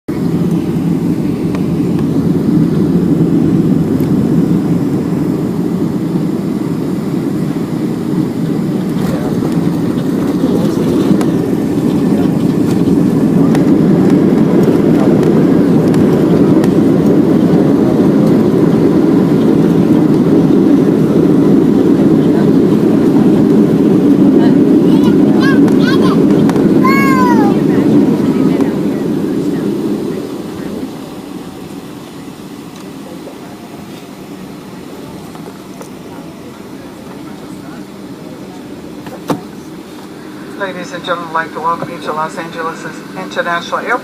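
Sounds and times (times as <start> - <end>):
aircraft cabin engine roar: 0.1 - 44.0.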